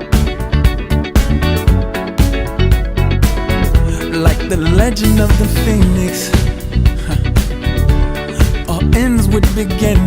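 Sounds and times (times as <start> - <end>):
bass: 0.0 - 10.0
steady drum beat: 0.0 - 10.0
strummed electric guitar riff: 0.0 - 10.0.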